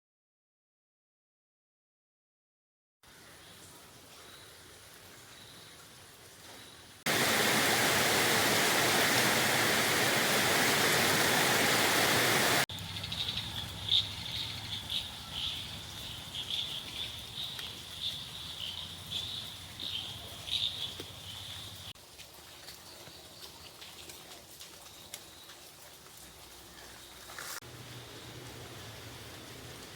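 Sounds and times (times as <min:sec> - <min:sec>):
rushing water: 0:03.1 - 0:12.7, 0:15.0 - 0:29.9.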